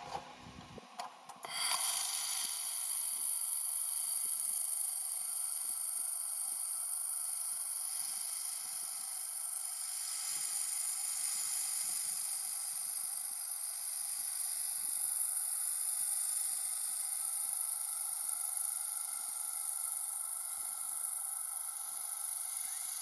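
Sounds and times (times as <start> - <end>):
welding machine high hiss: 1.3 - 23.0.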